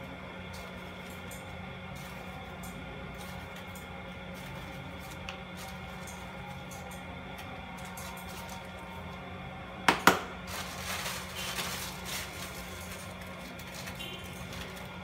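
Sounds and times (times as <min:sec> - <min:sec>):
steady low hum: 0:00.0 - 0:15.0
plastic bag rustling: 0:00.5 - 0:06.8, 0:07.4 - 0:09.1, 0:10.4 - 0:15.0.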